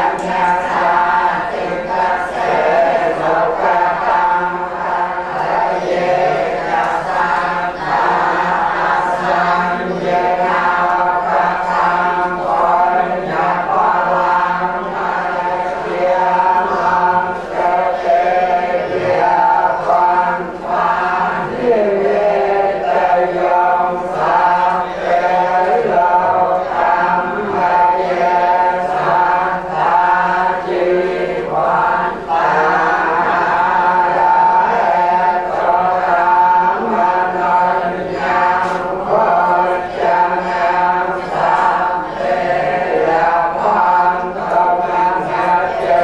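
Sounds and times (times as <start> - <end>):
group chanting in unison: 0.0 - 46.0.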